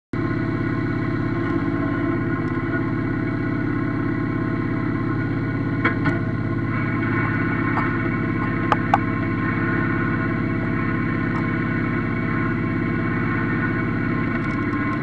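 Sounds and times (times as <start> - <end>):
tractor diesel engine running: 0.1 - 15.0.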